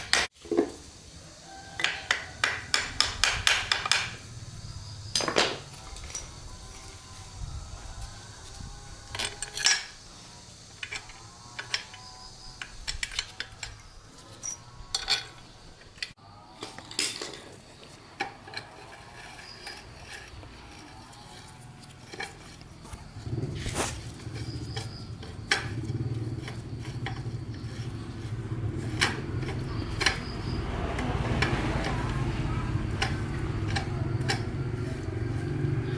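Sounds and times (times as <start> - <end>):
metal tools clinking: 5.1 - 7.4, 9.0 - 35.9.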